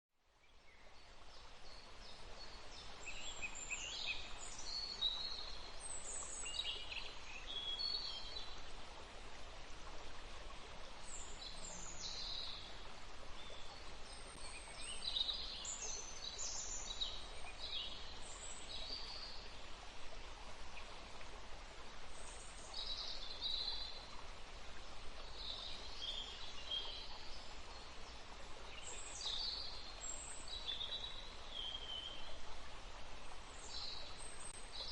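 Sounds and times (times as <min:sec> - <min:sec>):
stream water flowing: 0:00.2 - 0:34.9.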